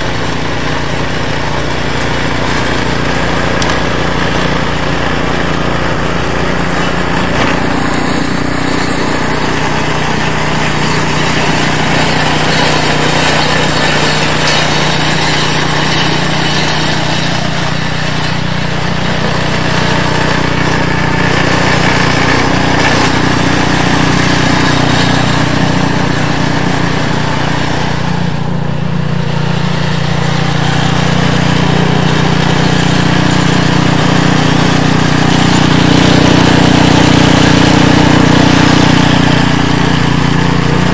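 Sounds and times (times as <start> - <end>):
snowblower engine running: 0.0 - 40.9.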